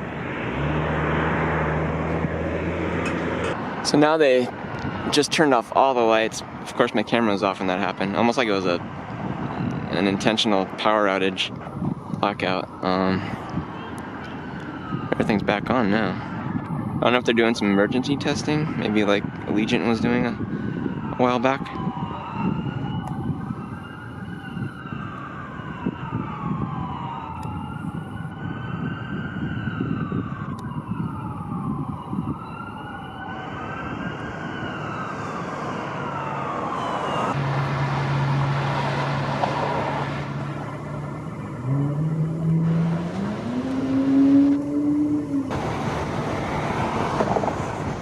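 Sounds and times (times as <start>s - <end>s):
emergency vehicle siren wailing: 0.0s - 48.0s
traffic noise: 0.0s - 48.0s.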